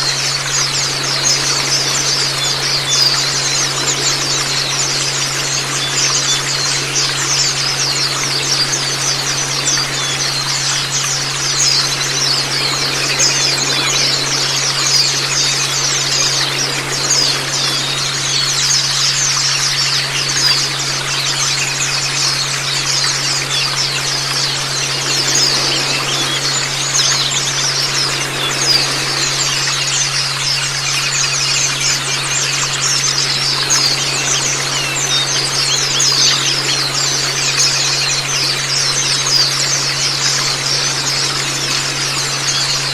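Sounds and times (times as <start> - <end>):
birds twittering: 0.0 - 42.9
running water: 0.0 - 42.9
steady low hum: 0.0 - 42.9.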